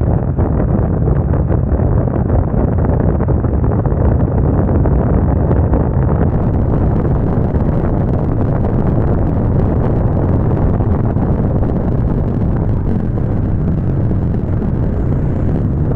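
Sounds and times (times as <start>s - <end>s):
wind buffeting microphone: 0.0s - 15.9s
vehicle rumbling: 0.1s - 15.9s.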